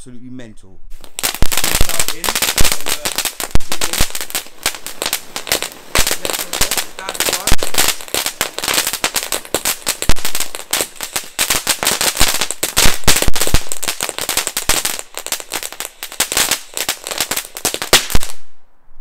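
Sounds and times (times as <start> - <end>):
firework fountain crackling: 0.9 - 18.6.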